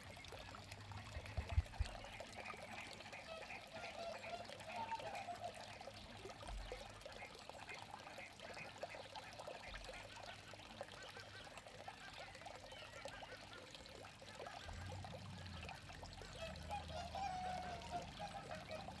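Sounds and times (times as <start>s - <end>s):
water trickling into pond: 0.0s - 19.0s.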